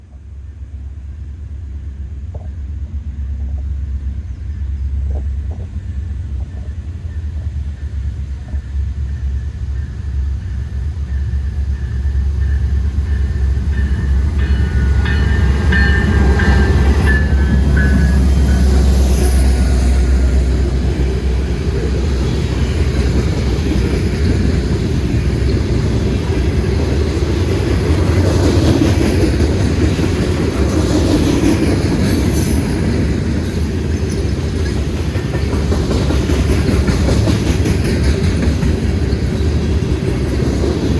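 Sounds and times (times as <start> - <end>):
diesel locomotives rumbling: 0.0 - 40.9
train wheel clatter: 2.2 - 40.9.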